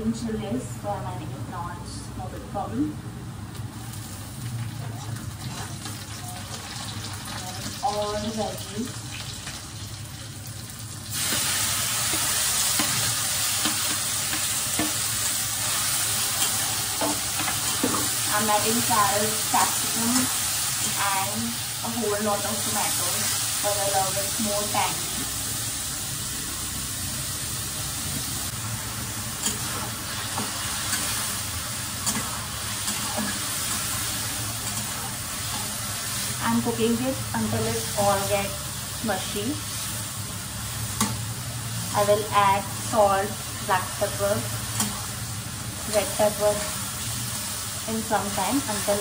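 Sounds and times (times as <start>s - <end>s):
vegetables sizzling in hot oil: 3.5s - 49.0s.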